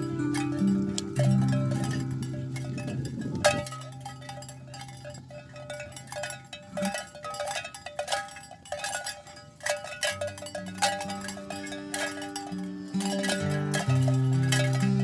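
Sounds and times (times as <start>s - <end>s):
cowbells clanking: 0.0s - 15.0s.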